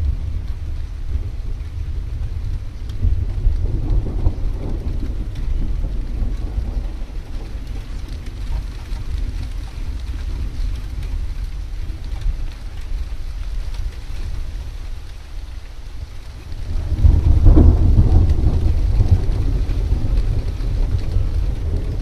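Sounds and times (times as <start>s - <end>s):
rain falling: 0.0s - 22.0s
thunder rumbling: 0.0s - 22.0s.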